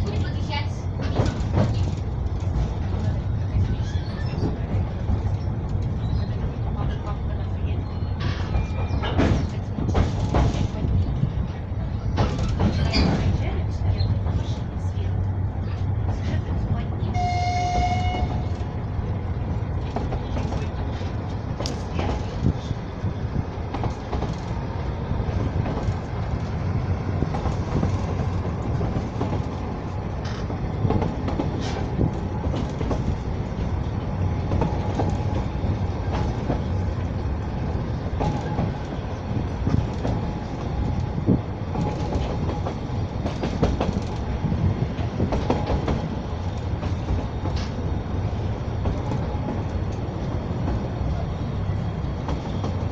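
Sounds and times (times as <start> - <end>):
clicks and knocks of train: 0.0 - 52.9
train wheels rumbling on rails: 0.0 - 52.9.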